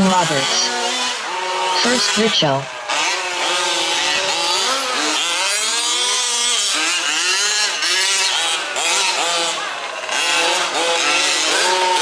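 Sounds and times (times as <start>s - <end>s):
rc truck engines revving: 0.0s - 12.0s.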